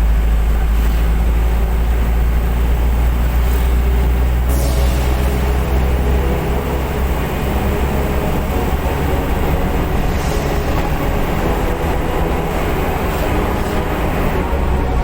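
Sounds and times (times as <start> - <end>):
diesel excavator engine droning: 0.0 - 15.0.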